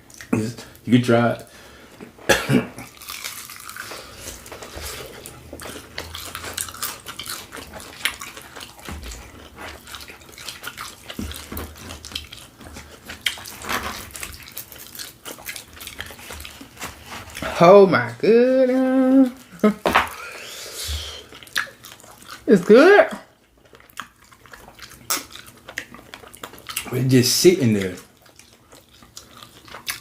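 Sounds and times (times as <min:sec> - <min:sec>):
chewing and wet mouth sounds: 0:00.0 - 0:00.8, 0:02.8 - 0:17.5, 0:18.7 - 0:30.0.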